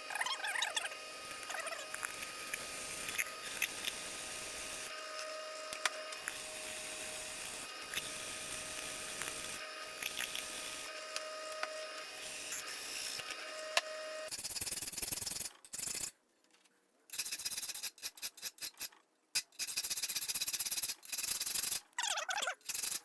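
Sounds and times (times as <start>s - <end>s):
tool grinding steel blade: 0.0s - 16.1s, 17.1s - 23.0s.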